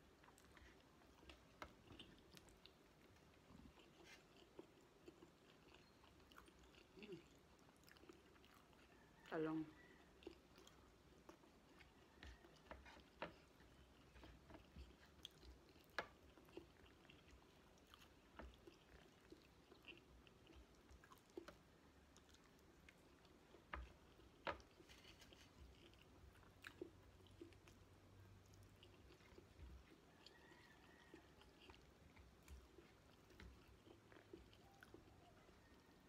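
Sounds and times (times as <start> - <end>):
person chewing softly: 0.0 - 36.0.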